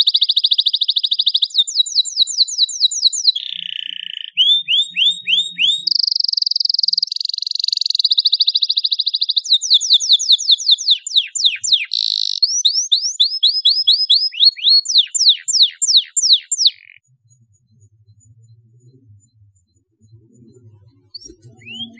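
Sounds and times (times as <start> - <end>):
canary singing: 0.0 - 17.0, 21.1 - 21.9.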